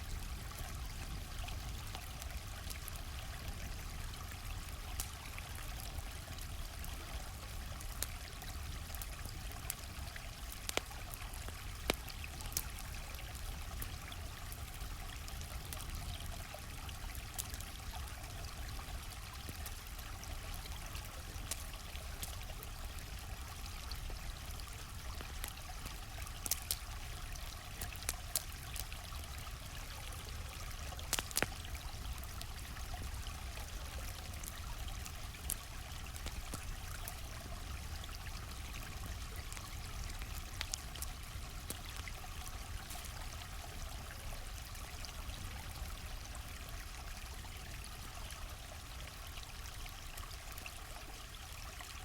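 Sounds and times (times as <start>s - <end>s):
campfire crackling and popping: 0.0s - 52.0s
stream flowing: 0.0s - 52.0s.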